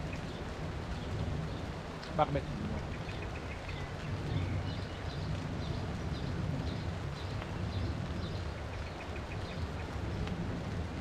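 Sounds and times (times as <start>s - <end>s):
rain falling on a river: 0.0s - 11.0s.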